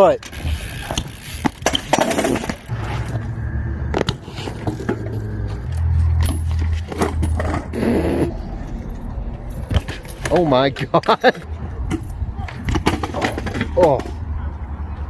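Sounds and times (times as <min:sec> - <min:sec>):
bike clattering and scraping on ground: 0:00.0 - 0:08.6, 0:09.3 - 0:14.3
bike rolling on pavement: 0:00.0 - 0:15.0.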